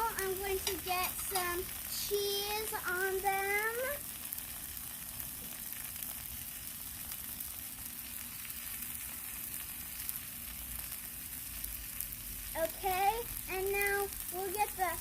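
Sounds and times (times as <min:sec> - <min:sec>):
chicken sizzling on a griddle: 0:00.0 - 0:15.0.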